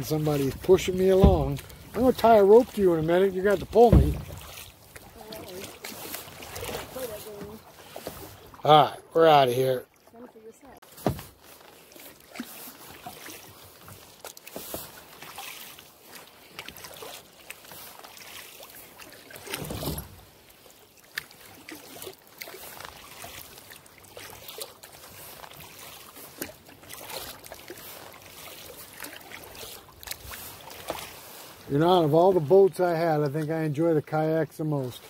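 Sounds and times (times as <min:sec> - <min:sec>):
paddle strokes splashing water: 0:00.0 - 0:35.0.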